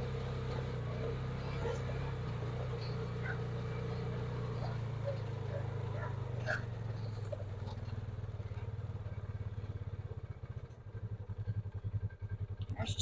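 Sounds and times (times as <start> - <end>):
engine running and idling: 0.0 - 13.0.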